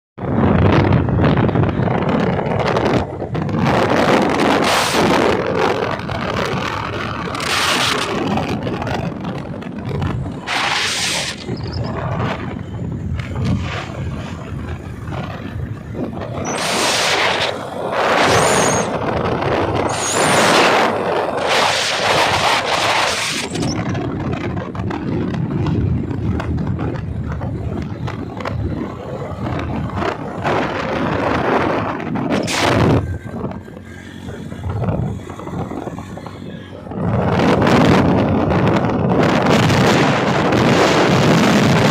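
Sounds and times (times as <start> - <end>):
moving bike rumble: 0.2 - 41.9
wind buffeting microphone: 0.2 - 41.9.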